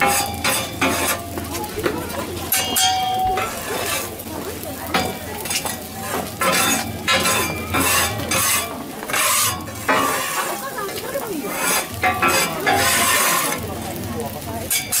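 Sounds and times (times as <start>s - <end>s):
food sizzling on a griddle: 0.0s - 15.0s
metal spatula scraping griddle: 0.0s - 15.0s.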